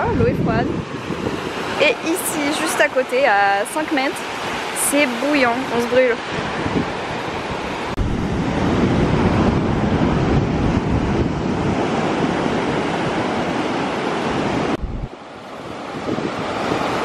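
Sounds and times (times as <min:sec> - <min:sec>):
surf breaking on a beach: 0:00.0 - 0:17.0
wind buffeting the microphone: 0:00.0 - 0:17.0.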